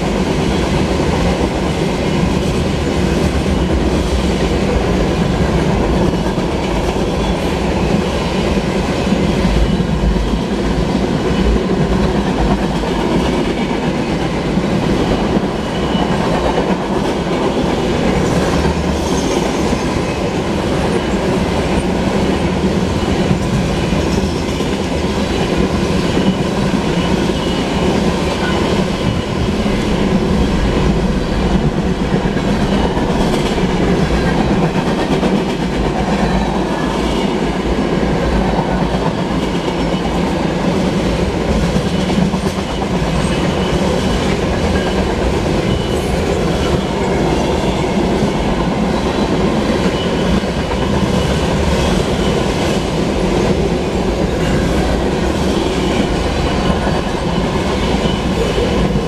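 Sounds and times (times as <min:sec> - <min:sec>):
clickety-clack over rail joints: 0:00.0 - 0:59.0
train wheels rumbling on rails: 0:00.0 - 0:59.0.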